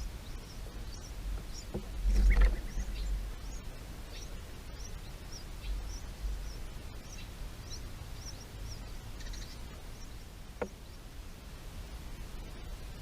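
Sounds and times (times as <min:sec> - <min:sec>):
small birds chirping: 0:00.0 - 0:11.2
steady low rumble: 0:00.0 - 0:13.0.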